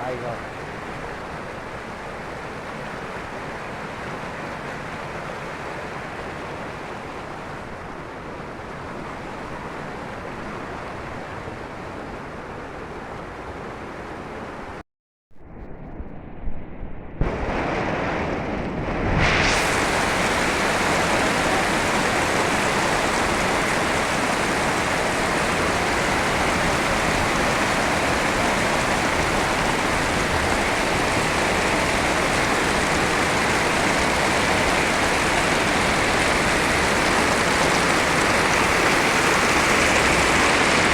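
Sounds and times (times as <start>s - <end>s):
heavy rain: 0.0s - 9.7s, 17.2s - 40.9s.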